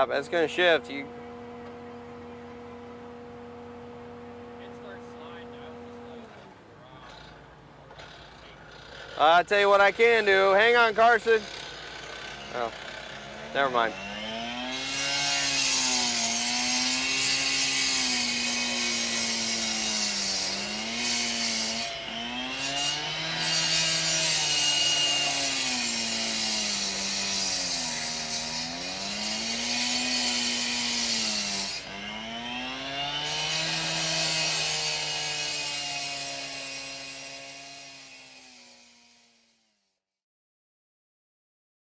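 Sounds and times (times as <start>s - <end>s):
cut-off saw cutting concrete: 0.0s - 39.9s.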